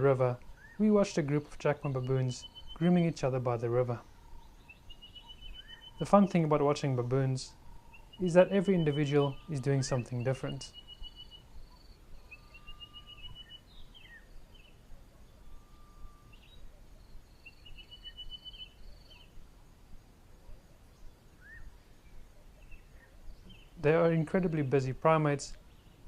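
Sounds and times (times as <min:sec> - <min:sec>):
birds calling faintly: 0:00.0 - 0:26.0.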